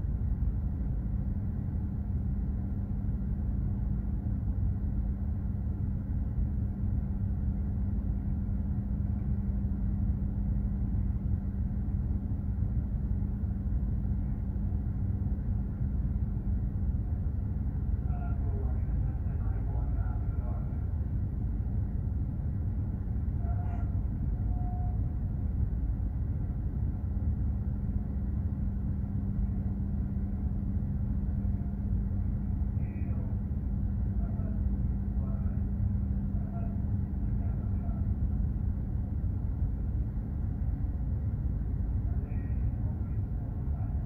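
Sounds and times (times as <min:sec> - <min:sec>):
low steady hum: 0:00.0 - 0:44.0
ship engine rumble: 0:00.0 - 0:44.0
wind: 0:00.0 - 0:44.0.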